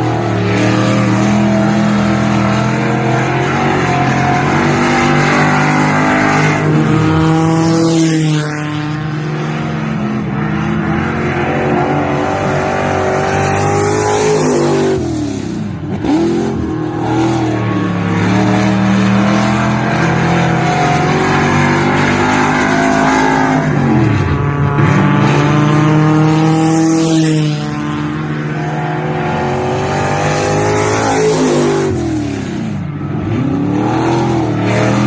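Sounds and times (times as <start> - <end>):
racing engine at high revs: 0.0 - 35.0.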